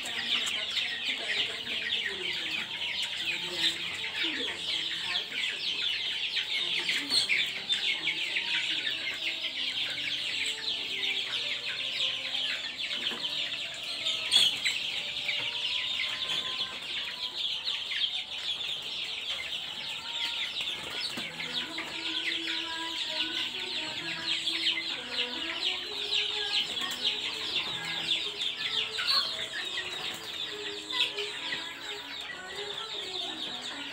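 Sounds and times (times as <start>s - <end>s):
chicks peeping and chirping: 0.0s - 33.9s.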